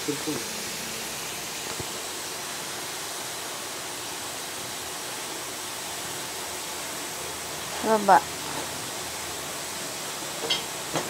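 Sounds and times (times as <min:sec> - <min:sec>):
food hissing in a pan: 0:00.0 - 0:11.0.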